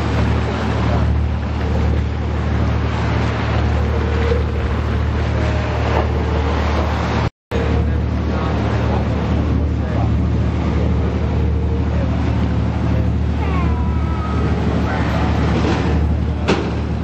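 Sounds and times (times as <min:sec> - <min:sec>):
boat engine humming: 0:00.0 - 0:17.0
water rushing: 0:00.0 - 0:17.0.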